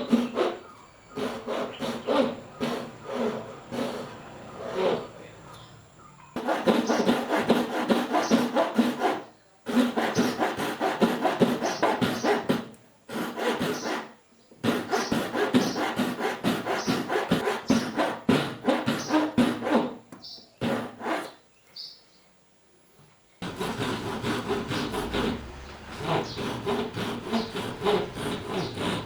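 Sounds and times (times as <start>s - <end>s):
hand saw cutting wood: 0.0s - 5.6s, 6.3s - 21.4s, 23.4s - 29.0s.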